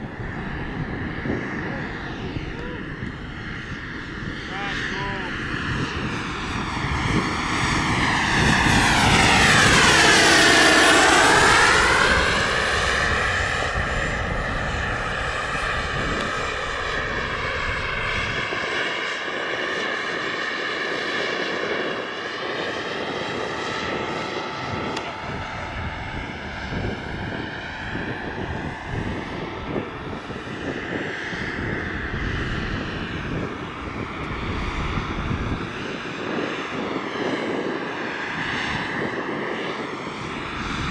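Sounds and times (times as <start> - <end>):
model helicopter motor and rotor: 0.4 - 40.9.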